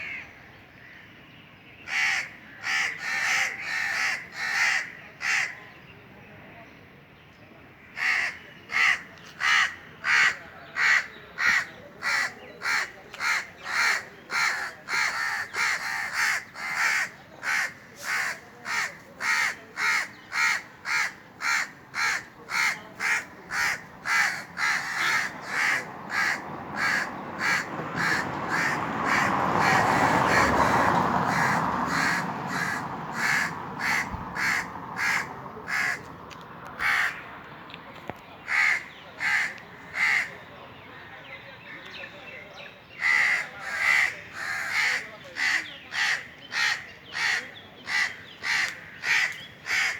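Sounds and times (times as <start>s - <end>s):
crows cawing: 0.0s - 1.0s, 1.8s - 5.6s, 7.8s - 36.1s, 36.8s - 37.2s, 38.4s - 40.4s, 43.0s - 49.9s.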